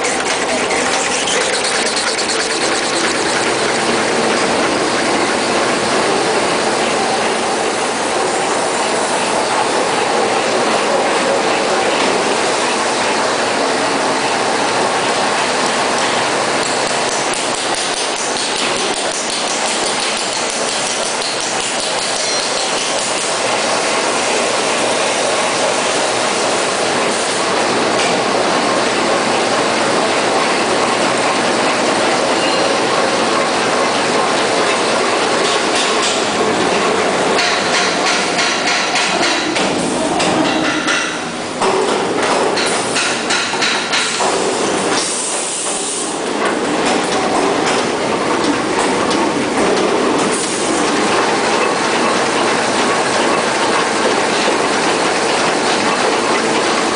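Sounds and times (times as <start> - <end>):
machine rollers clattering: 0.0 - 56.9.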